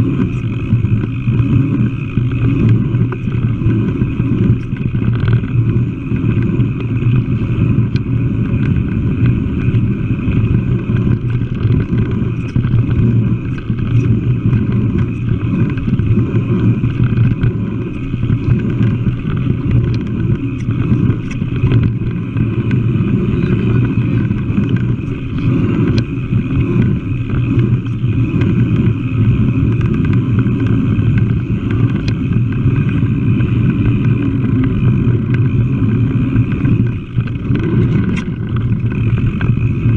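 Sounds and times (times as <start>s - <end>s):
wind rush on microphone: 0.0s - 39.9s
faint ticks: 0.2s - 39.9s.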